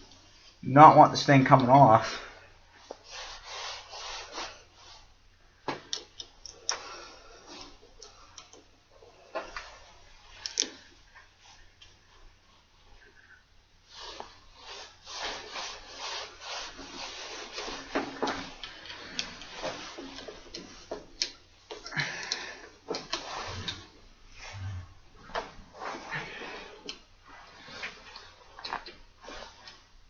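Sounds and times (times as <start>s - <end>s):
rubbing and scraping: 1.6s - 5.2s, 6.8s - 30.0s.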